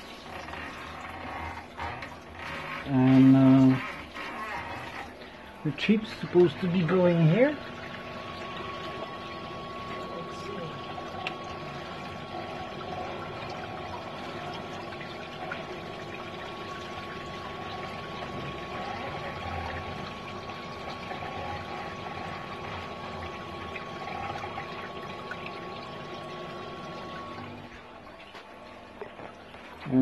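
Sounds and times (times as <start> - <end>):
water pouring down chute: 0.0 - 30.0.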